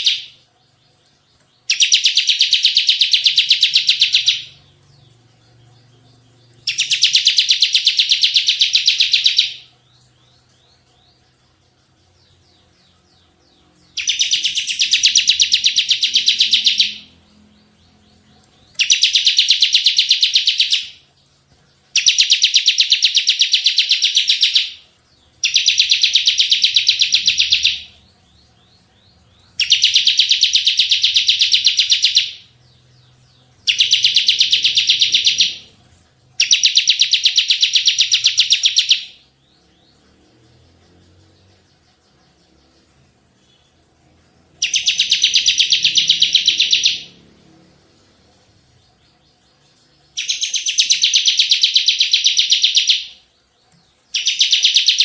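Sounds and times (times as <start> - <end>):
bird singing rapid high notes: 0.0 - 55.0.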